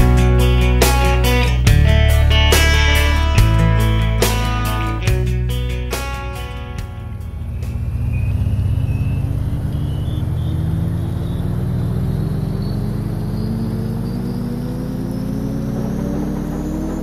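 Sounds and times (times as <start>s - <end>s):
low dense drone: 0.0s - 17.0s
rising tone: 0.0s - 17.0s.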